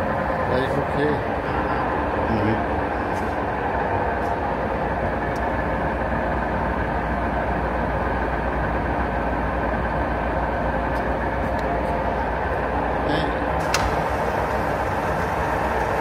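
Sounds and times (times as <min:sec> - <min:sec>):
lathe humming and whirring: 0:00.0 - 0:16.0.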